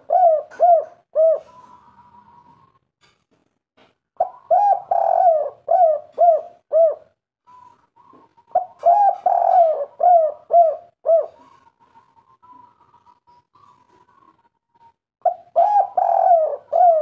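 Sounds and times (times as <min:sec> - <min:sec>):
dove cooing: 0:00.0 - 0:02.8, 0:04.2 - 0:17.0.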